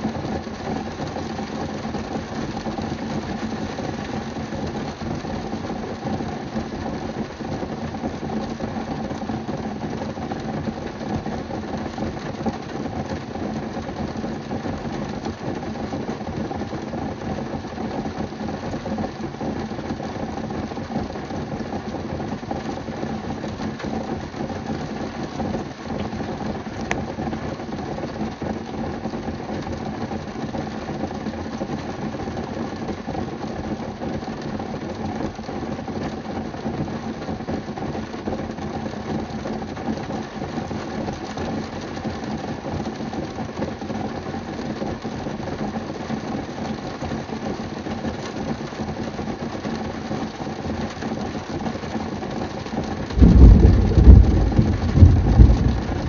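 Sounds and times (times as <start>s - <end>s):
rain drumming on car roof: 0.0s - 56.0s.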